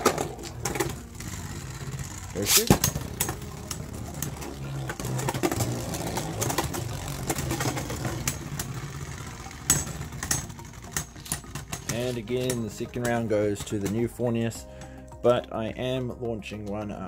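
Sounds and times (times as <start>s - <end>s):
spinning tops clacking together: 0.0s - 14.3s
spinning tops whirring: 0.0s - 14.4s.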